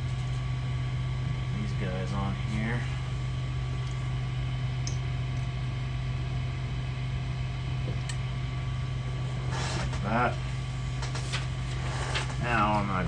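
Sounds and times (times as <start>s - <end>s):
cooling fans humming: 0.0s - 13.0s.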